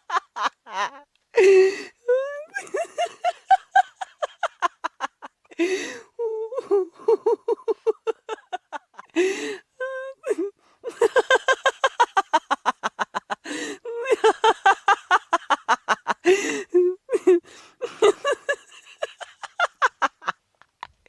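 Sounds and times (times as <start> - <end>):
hearty human laughter: 0.0 - 9.4, 10.9 - 20.4.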